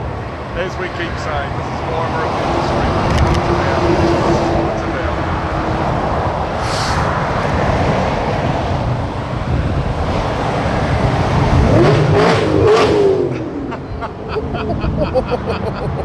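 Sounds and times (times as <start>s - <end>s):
engine rising in pitch: 0.0s - 16.0s
heavy vehicles rumbling on road: 0.0s - 16.0s.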